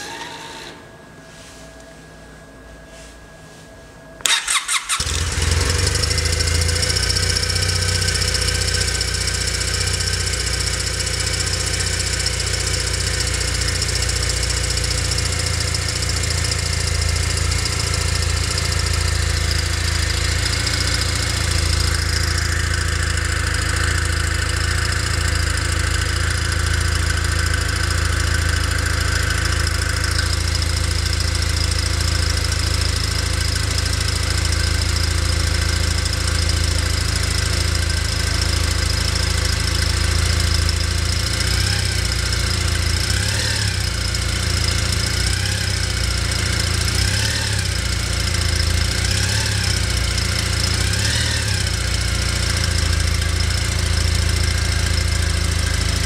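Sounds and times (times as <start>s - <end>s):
motorcycle engine idling: 4.2s - 56.0s.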